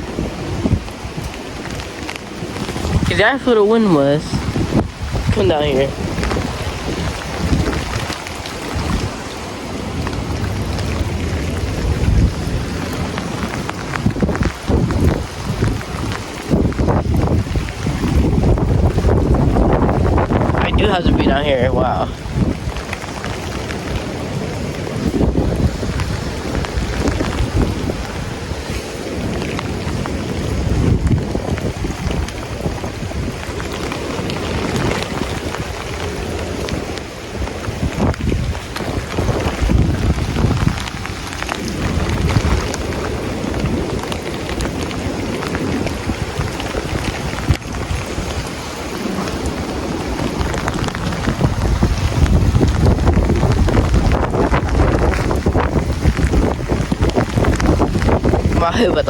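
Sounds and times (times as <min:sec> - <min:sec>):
rain spattering: 0:00.0 - 0:59.0
wind buffeting microphone: 0:00.0 - 0:59.0.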